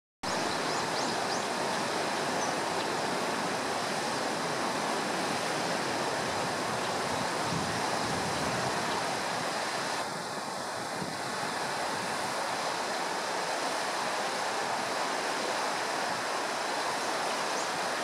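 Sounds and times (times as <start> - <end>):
river rushing: 0.3 - 18.0.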